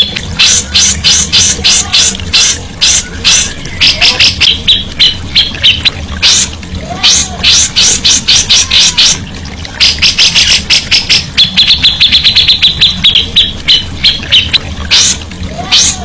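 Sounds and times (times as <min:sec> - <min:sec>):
songbird calling and trilling: 0:00.0 - 0:09.2, 0:09.8 - 0:16.0.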